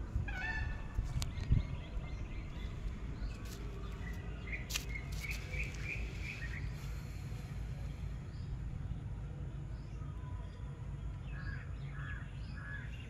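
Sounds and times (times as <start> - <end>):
steady low rumble: 0.0 - 13.0
small birds chirping: 1.0 - 13.0.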